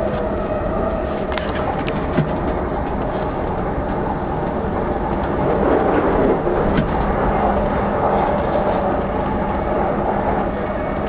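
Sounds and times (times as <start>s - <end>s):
low motor hum: 0.0s - 11.0s
train wheels rumbling on rail: 0.0s - 11.0s.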